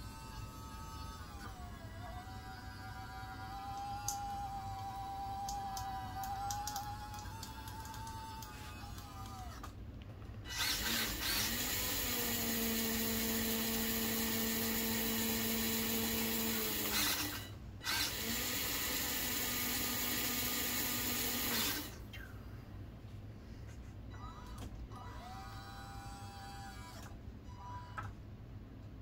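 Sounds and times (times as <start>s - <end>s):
hydraulic pump whining: 0.0s - 9.7s, 10.5s - 22.1s, 24.2s - 28.1s.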